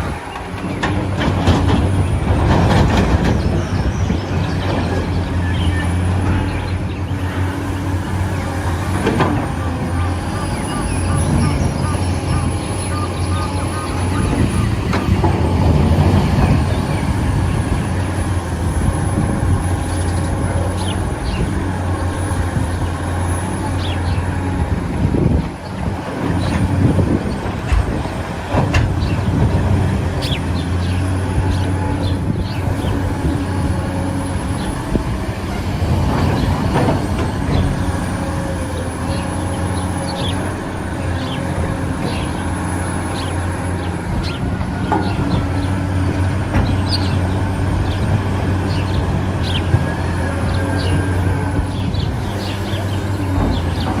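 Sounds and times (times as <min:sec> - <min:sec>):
motor drone with low hum: 0:00.0 - 0:54.0.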